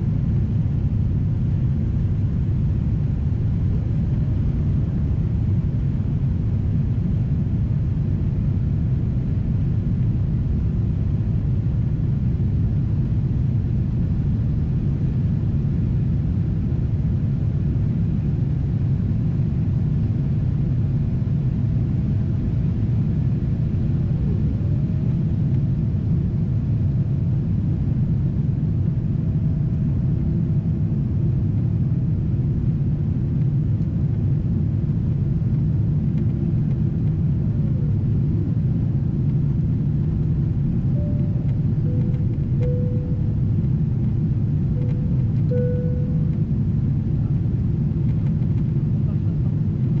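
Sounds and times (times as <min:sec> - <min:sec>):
airplane cabin engine rumble: 0:00.0 - 0:50.0.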